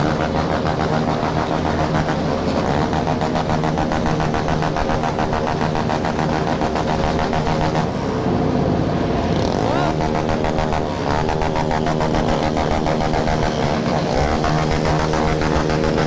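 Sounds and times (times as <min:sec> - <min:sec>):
engines revving: 0:00.0 - 0:16.0
motorcycle engines running: 0:00.0 - 0:16.0.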